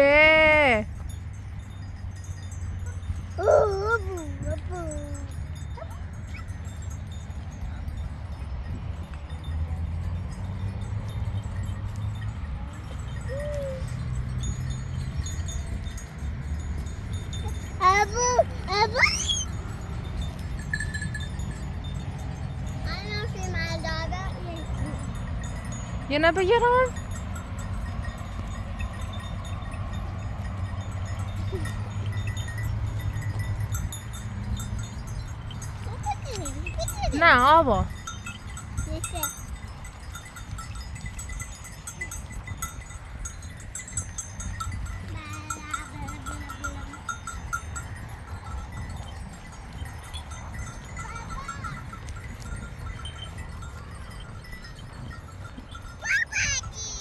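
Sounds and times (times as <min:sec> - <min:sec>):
faint livestock bells ringing: 0:00.0 - 0:57.0.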